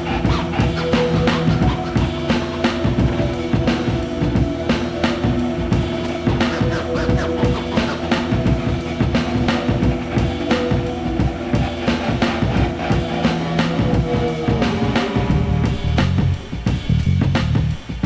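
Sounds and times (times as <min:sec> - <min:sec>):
driving drum beat: 0:00.0 - 0:18.0
sustained low tones: 0:00.0 - 0:18.0.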